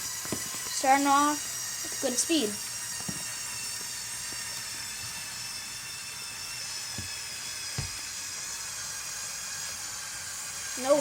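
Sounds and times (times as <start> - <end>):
toy tractor motors whining: 0.0 - 11.0.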